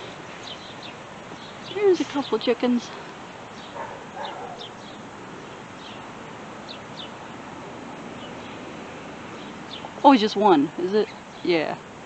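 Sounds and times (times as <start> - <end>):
small birds chirping: 0.0 - 11.8
outdoor background noise: 0.0 - 12.0.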